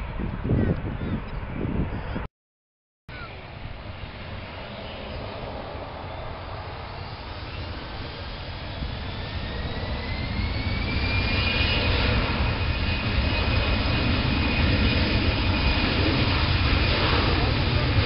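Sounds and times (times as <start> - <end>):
jet engines spooling up: 3.4 - 18.0.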